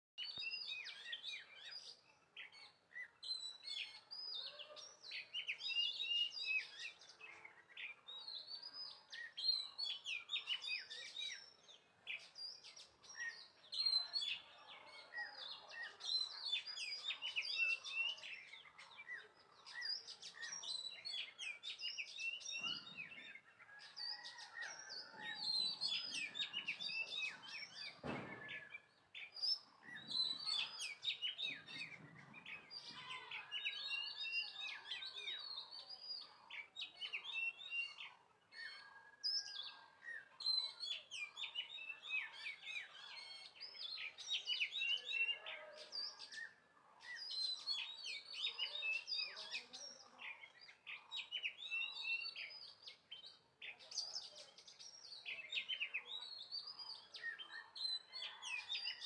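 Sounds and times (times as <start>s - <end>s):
small birds chirping: 0.2s - 59.0s.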